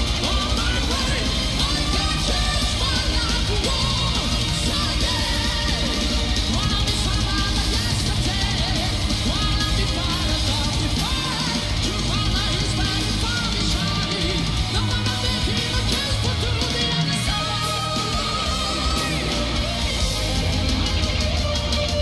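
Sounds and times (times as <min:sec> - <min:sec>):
man singing: 0:00.0 - 0:20.8
live heavy metal band: 0:00.0 - 0:22.0.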